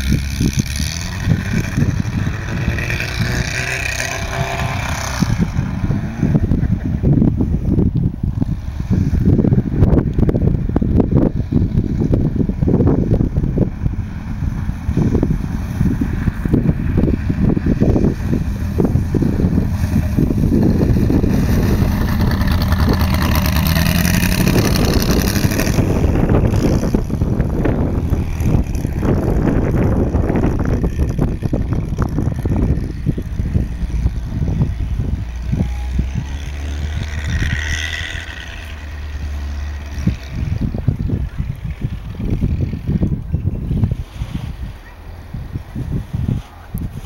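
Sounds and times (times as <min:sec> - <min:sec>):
car engine revving: 0:00.0 - 0:43.2
wind buffeting microphone: 0:00.0 - 0:47.0.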